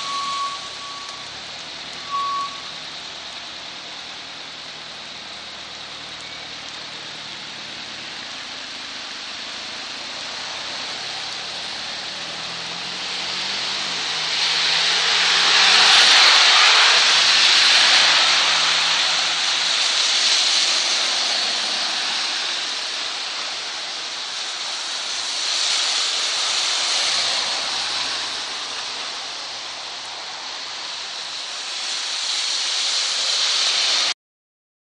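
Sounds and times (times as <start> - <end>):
car tyres swishing through water: 0.0 - 34.1
heavy rain on wet street: 0.0 - 34.2.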